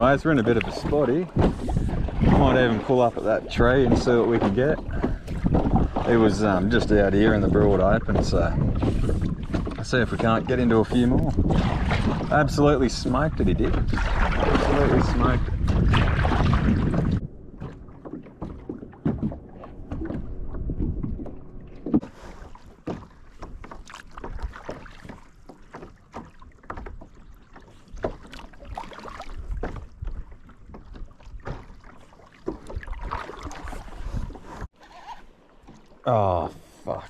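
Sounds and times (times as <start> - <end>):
small knocks and splashes: 0.0 - 37.0
water washing against hull: 0.0 - 37.0.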